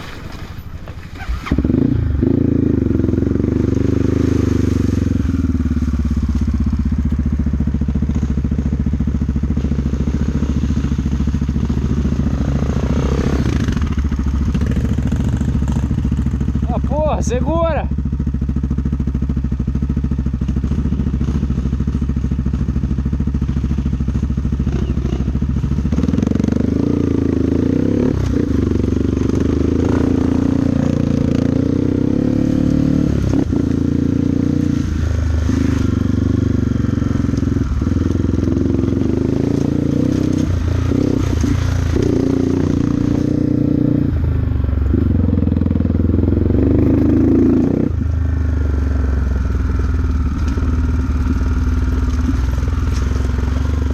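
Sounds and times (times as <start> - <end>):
off-road motorcycle engine revving: 0.0 - 53.9.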